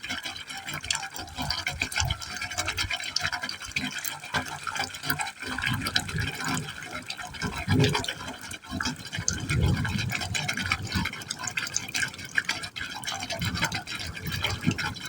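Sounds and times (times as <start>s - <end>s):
water splashing into pipe: 0.0s - 15.0s.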